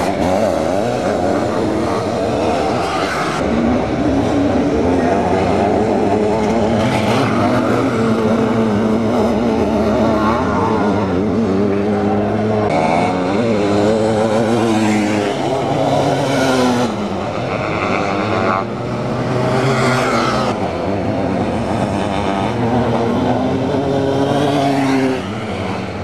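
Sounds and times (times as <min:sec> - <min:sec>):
motocross engines revving: 0:00.0 - 0:26.0.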